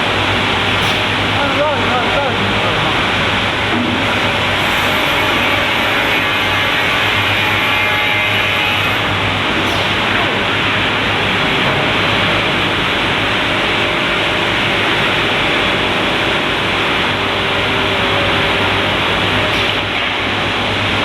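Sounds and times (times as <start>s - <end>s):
saw cutting machine whirring: 0.0s - 21.0s.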